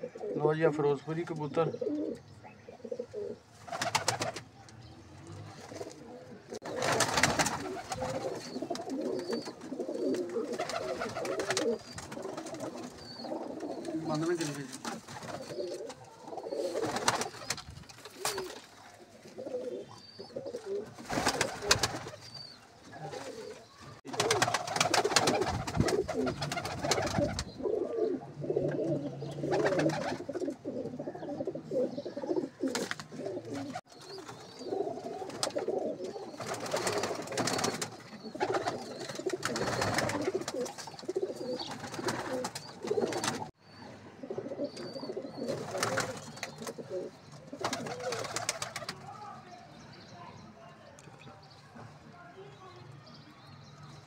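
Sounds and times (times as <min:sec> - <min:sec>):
pigeons cooing: 0:00.0 - 0:04.5, 0:05.3 - 0:49.0.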